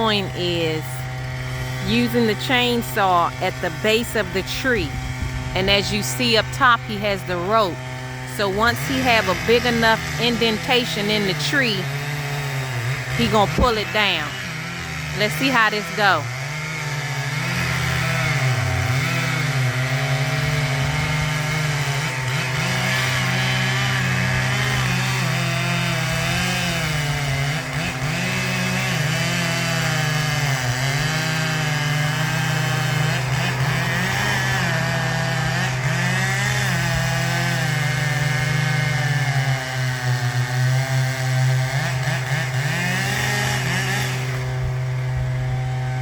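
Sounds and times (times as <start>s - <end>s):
chainsaw cutting wood: 0.0s - 46.0s.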